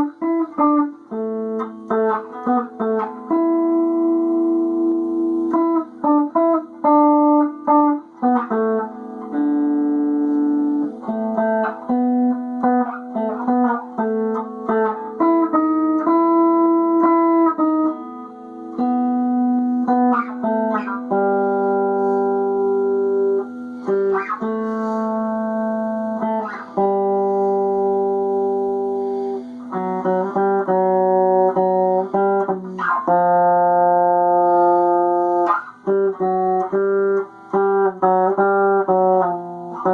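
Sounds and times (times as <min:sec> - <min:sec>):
solo guitar melody: 0:00.0 - 0:39.9.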